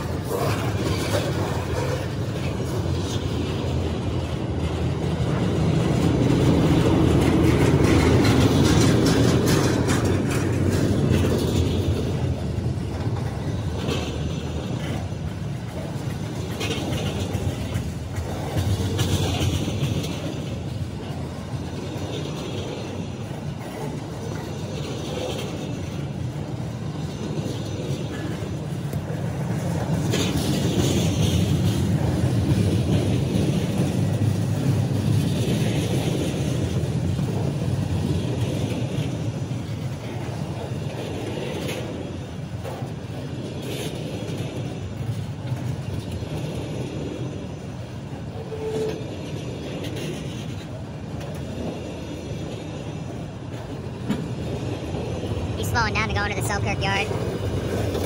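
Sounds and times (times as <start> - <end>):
train wheel clicks: 0.0 - 55.6
freight train wheels rumbling: 0.0 - 58.0.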